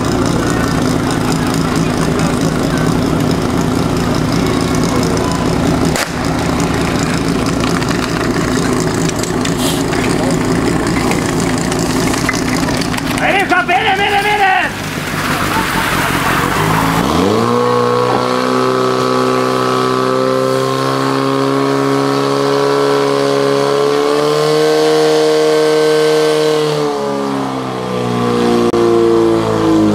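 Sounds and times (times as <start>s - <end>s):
pump engine revving: 0.0s - 26.9s.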